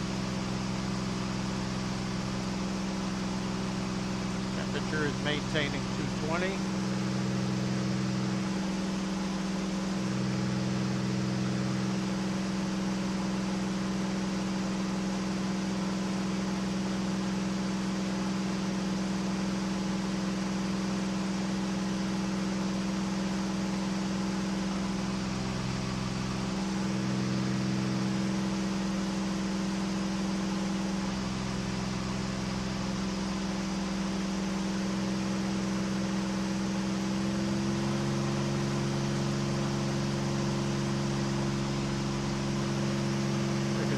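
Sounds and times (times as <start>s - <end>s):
airplane engine and propeller droning: 0.0s - 43.9s.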